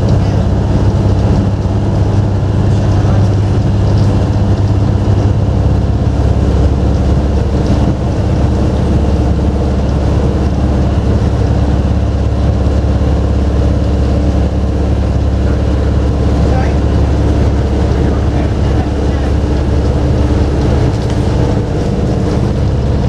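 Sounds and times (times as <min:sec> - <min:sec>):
bus engine droning: 0:00.0 - 0:23.0.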